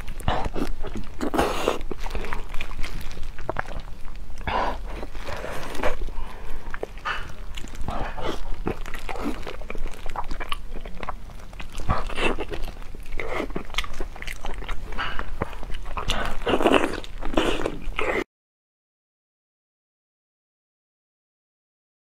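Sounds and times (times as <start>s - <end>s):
chewing crispy fried food: 0.0s - 18.2s.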